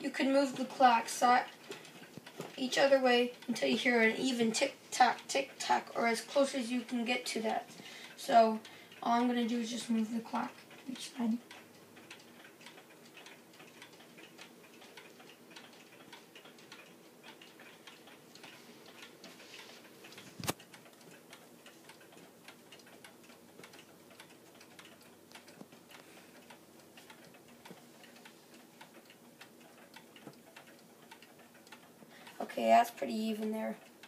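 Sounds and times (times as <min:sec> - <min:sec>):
clock ticking: 0:00.0 - 0:34.0.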